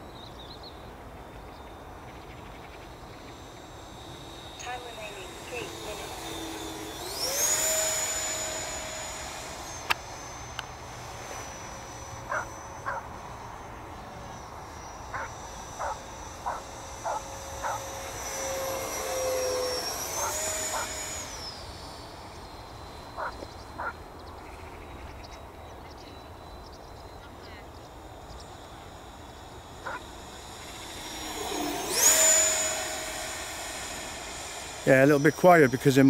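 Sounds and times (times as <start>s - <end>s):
electric fan motor whine: 0.0s - 36.0s.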